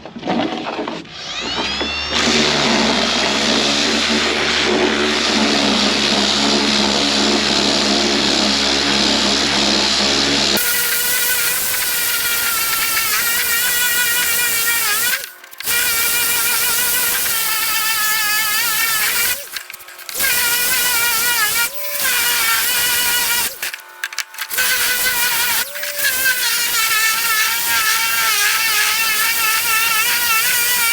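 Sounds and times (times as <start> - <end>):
electric power tool whining: 0.4 - 30.9.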